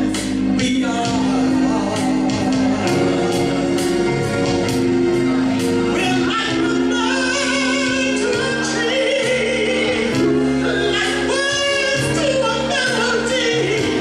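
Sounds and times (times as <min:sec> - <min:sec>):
electric keyboard chords: 0:00.0 - 0:14.0.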